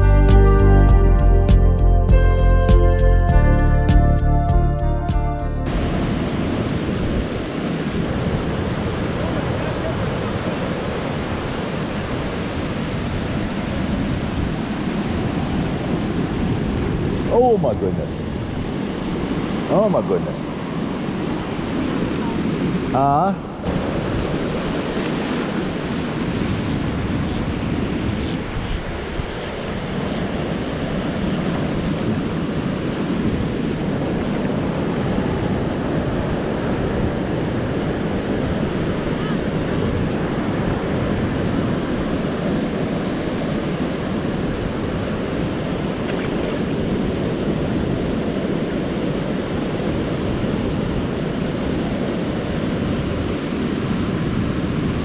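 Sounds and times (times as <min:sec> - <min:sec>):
wind rumbling on microphone: 0:05.6 - 0:55.0
ocean surf breaking: 0:05.7 - 0:55.0.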